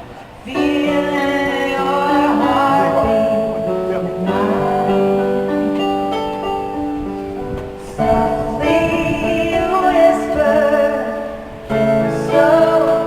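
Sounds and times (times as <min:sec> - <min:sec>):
woman singing long wavering notes: 0:00.4 - 0:06.5, 0:07.8 - 0:13.0.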